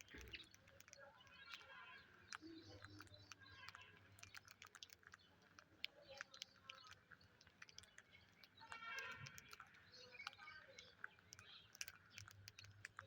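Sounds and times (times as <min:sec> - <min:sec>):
parakeet beak clicks and crunches: 0:00.0 - 0:13.0
soft bird chirps: 0:00.0 - 0:13.0.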